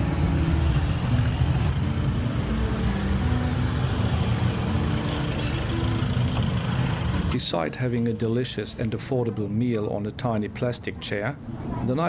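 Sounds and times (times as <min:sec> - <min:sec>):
road traffic rumble: 0:00.0 - 0:11.8.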